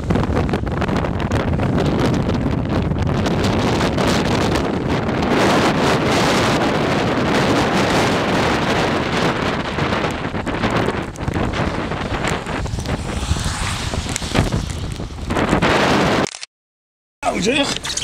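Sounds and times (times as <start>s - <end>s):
strong storm wind on microphone: 0.0s - 16.4s.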